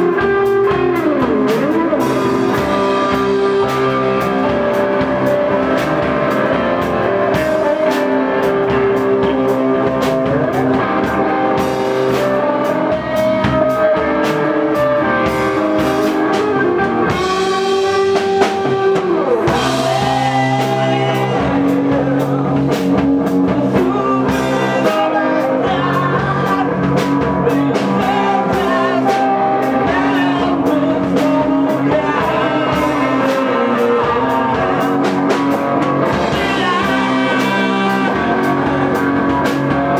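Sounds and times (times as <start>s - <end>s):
bass line: 0.0s - 39.9s
live rock band playing: 0.0s - 39.9s.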